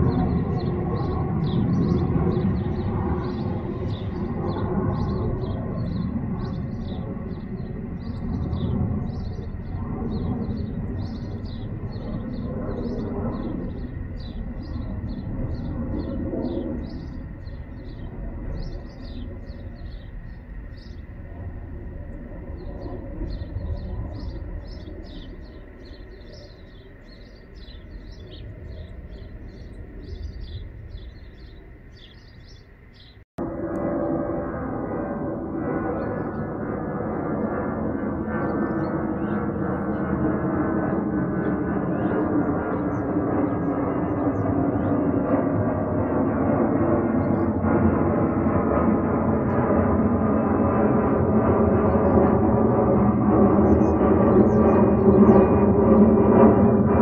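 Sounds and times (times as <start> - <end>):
small birds chirping: 0.0 - 33.2, 37.2 - 48.9, 51.0 - 57.0
distant jet engine rumble: 0.0 - 57.0.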